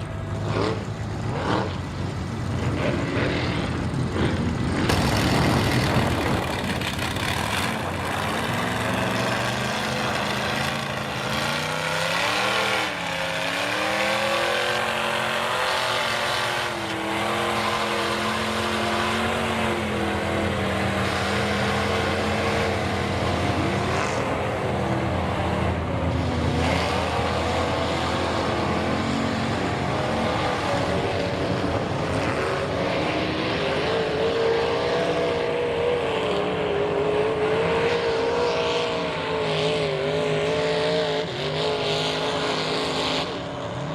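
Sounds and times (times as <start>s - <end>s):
loud truck engine revving: 0.0s - 43.9s.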